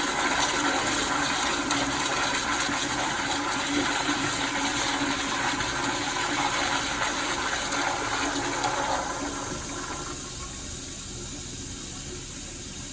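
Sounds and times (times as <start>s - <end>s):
toilet flushing: 0.0s - 12.9s.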